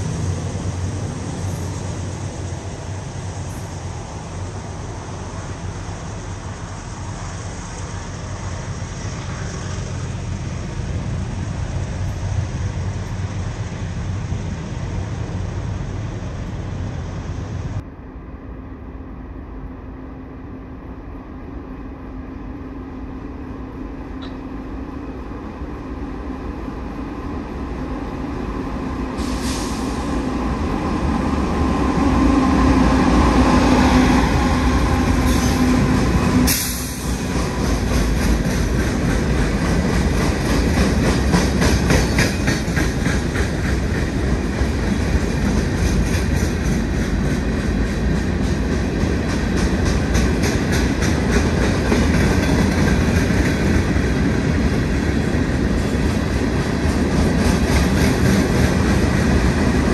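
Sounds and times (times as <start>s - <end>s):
diesel locomotives passing: 0.0s - 59.9s.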